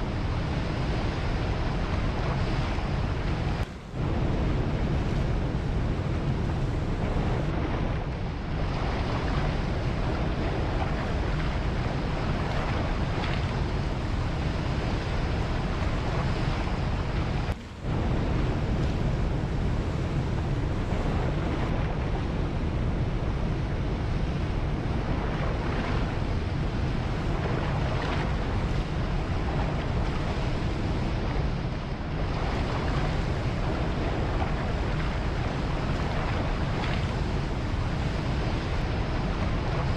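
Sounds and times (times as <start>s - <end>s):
ocean waves washing ashore: 0.0s - 39.9s
wind rumble on microphone: 0.0s - 39.9s.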